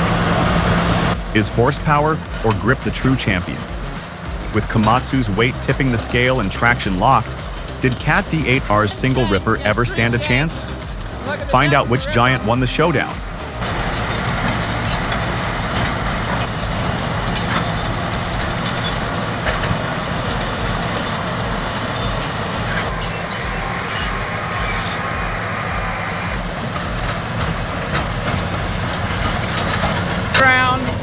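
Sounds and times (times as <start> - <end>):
heavy diesel engines under load: 0.0 - 31.0.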